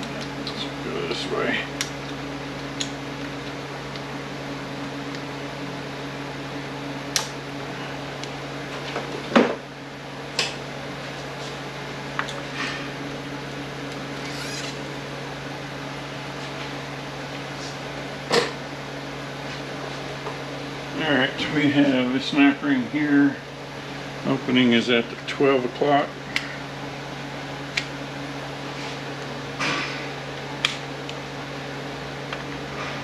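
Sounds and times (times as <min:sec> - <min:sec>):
machine hum: 0:00.0 - 0:33.0.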